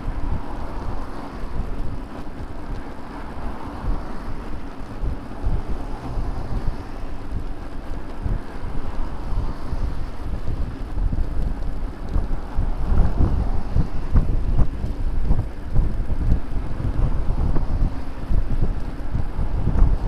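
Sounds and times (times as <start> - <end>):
road noise rushing: 0.0 - 20.0
wind buffeting microphone: 0.0 - 20.0.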